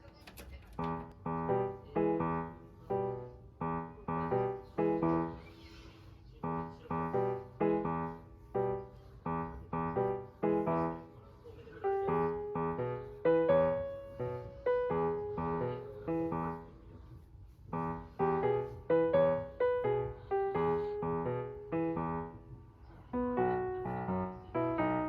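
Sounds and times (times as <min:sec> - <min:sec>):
piano music: 0:00.8 - 0:25.0.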